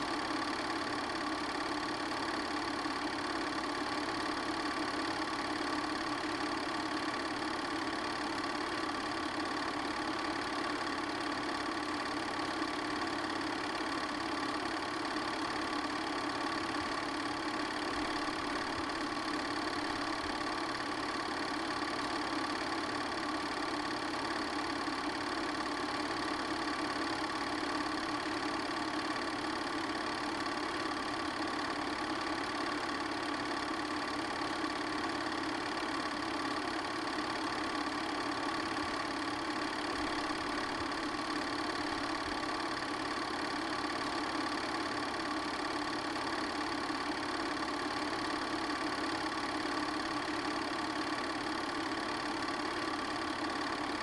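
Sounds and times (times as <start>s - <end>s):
film projector whirring: 0.0s - 54.0s.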